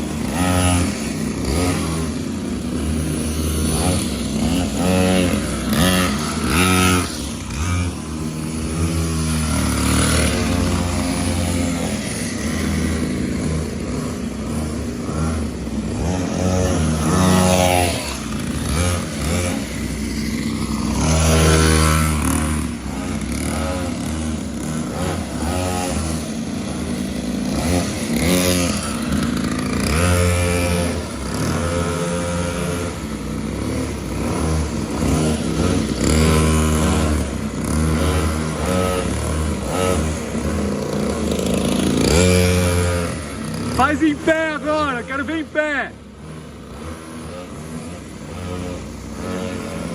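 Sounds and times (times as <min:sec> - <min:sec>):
mini motorcycle engine revving: 0:00.0 - 0:49.9.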